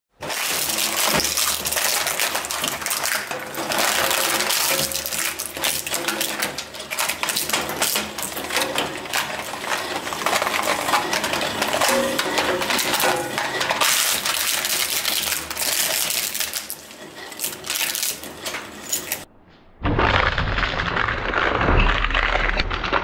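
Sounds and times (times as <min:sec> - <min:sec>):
shredder cracking hard plastic: 0:00.1 - 0:19.2, 0:20.1 - 0:23.0.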